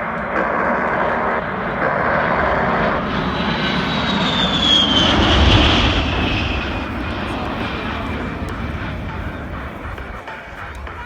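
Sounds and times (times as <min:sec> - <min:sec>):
jet engine whine: 0:00.0 - 0:11.0
jet flying past roaring: 0:00.0 - 0:11.0.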